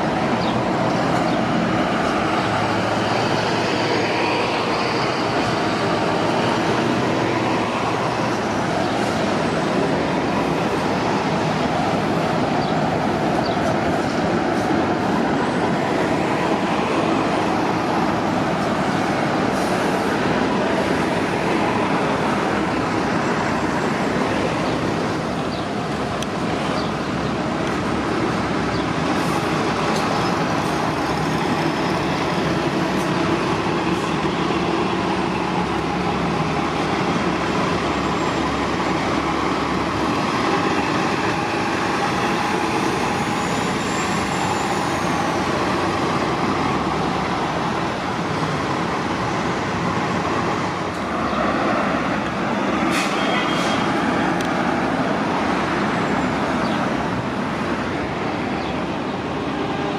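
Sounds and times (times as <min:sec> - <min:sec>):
bus engines rumbling: 0:00.0 - 0:59.9.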